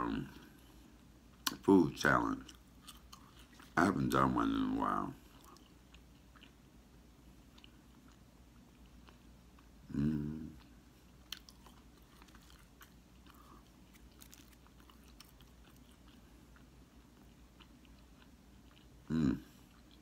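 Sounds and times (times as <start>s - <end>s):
person chewing crispy food: 2.3s - 20.0s.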